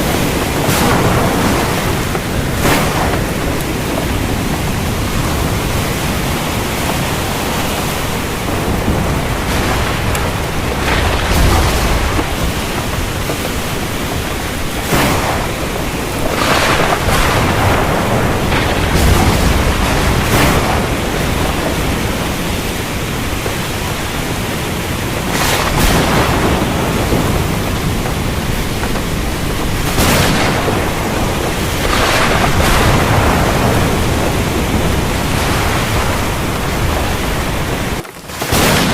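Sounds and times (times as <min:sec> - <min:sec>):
heavy rain falling: 0:00.0 - 0:38.9
thunder rolling: 0:00.0 - 0:38.9.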